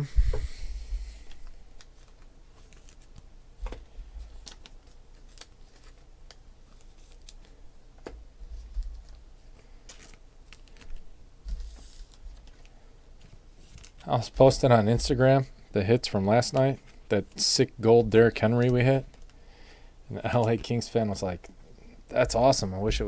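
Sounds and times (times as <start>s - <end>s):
plastic sleeves rustling: 0.1s - 19.5s.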